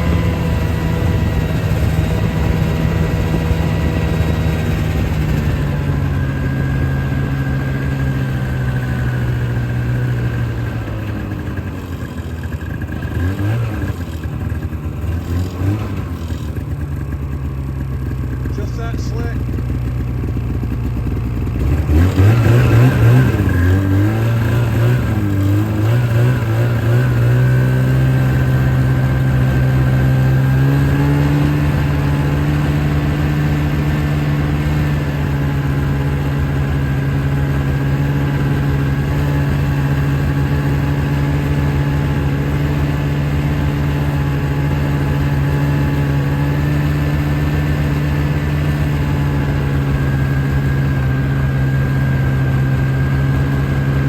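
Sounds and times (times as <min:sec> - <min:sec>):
engine revving and running: 0:00.0 - 0:54.0.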